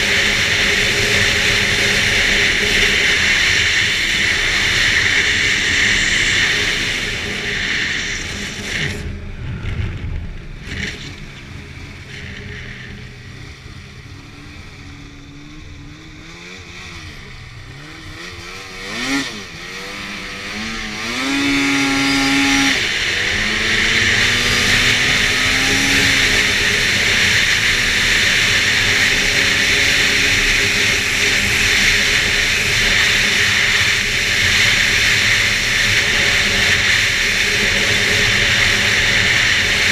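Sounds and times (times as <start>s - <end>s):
snowmobile engine: 0.0s - 39.9s
wind and track rushing hiss: 0.0s - 39.9s.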